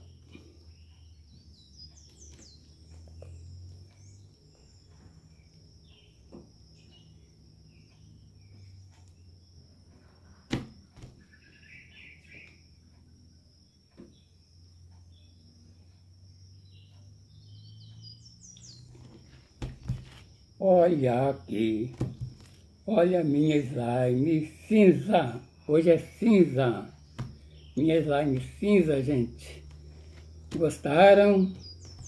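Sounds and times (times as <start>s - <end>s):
bird chirps: 0.0s - 10.5s, 11.1s - 13.1s, 13.7s - 32.0s
steady low hum: 0.0s - 32.0s.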